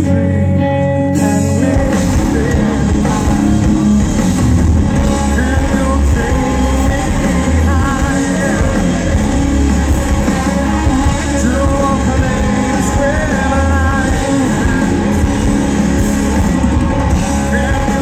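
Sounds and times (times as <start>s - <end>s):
man singing lead vocal: 0.0s - 15.6s, 16.8s - 18.0s
live rock band playing: 0.0s - 18.0s.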